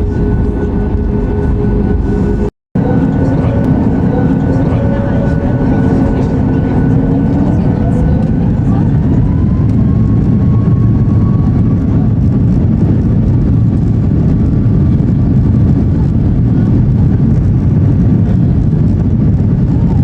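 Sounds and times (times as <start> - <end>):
airplane cabin engine rumble: 0.0 - 20.0.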